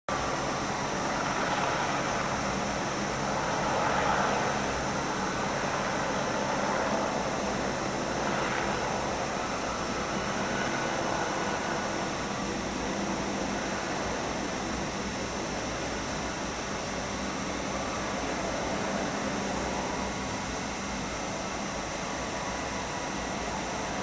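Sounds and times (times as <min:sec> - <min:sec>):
helicopters hovering overhead: 0:00.1 - 0:24.0.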